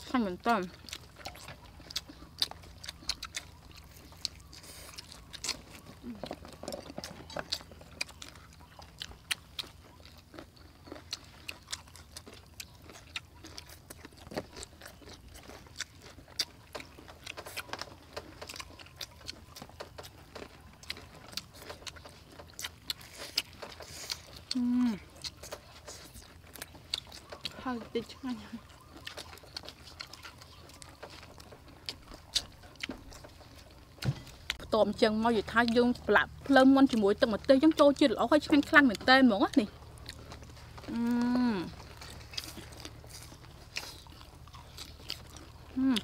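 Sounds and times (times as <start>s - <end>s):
crunching and chewing fried chicken: 0.0s - 46.0s.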